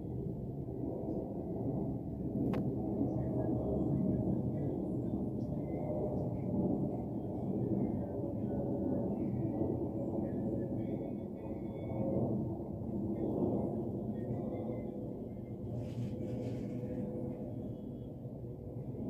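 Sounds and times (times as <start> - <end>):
distant jet engine rumble: 0.0 - 19.0.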